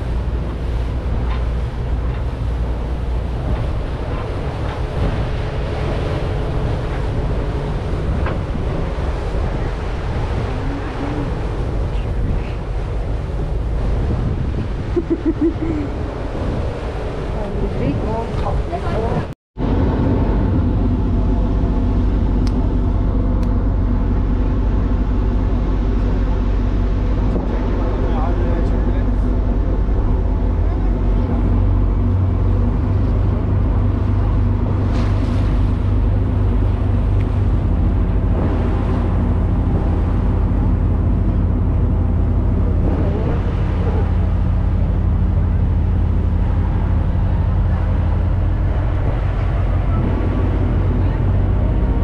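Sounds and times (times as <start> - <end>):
boat engine drone: 0.0 - 52.0
water rushing: 0.0 - 52.0
wind: 0.0 - 52.0.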